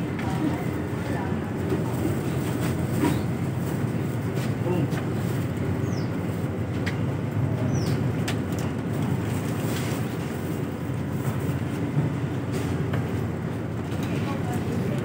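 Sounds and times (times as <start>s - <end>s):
vehicle rumble in motion: 0.0s - 15.0s.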